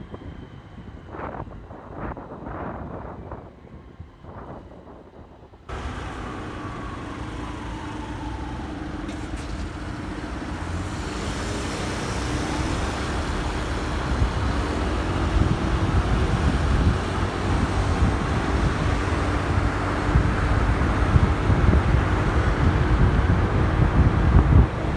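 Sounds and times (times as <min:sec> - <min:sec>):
road and wind noise: 0:00.0 - 0:24.9.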